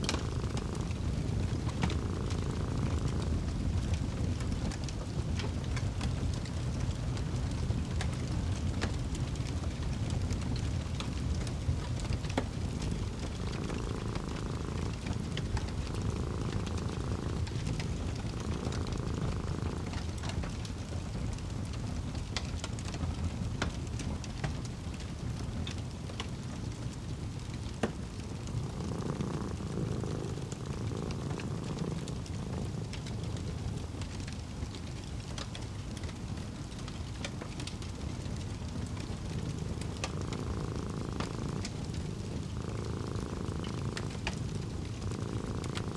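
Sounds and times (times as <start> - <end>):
cat purring: 0.0 - 45.9
wood fire crackling: 0.0 - 45.9.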